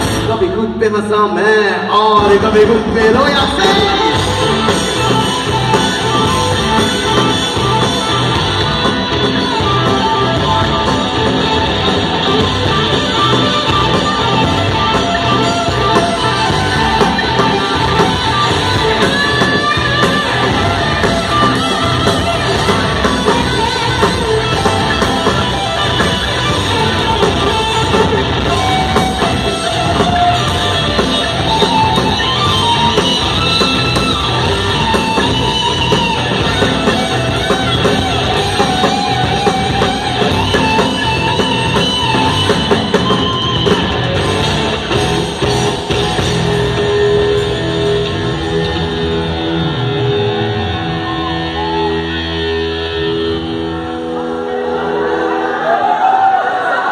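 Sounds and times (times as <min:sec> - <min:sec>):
drum kit: 0:00.0 - 0:00.8, 0:02.0 - 0:53.8
electric guitars: 0:00.0 - 0:56.9
live rock band playing: 0:00.0 - 0:56.9.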